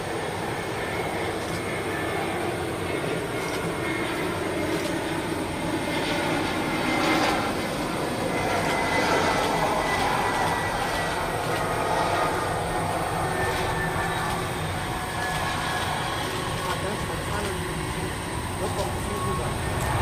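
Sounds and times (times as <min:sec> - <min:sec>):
faint high engine whine: 0:00.0 - 0:20.0
jet engines rushing: 0:00.0 - 0:20.0.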